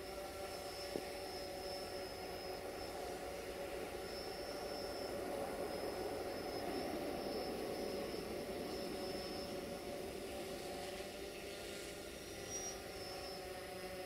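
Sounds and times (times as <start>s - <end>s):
steady engine drone: 0.0s - 14.0s
thin high whine: 0.0s - 14.0s.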